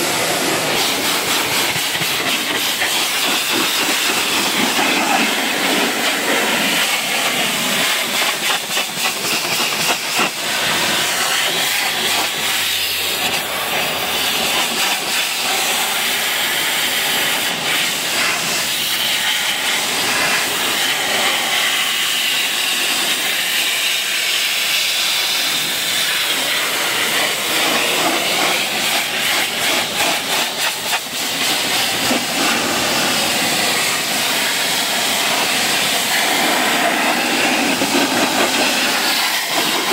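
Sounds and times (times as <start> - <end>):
pressure washer jet hissing: 0.0 - 39.9.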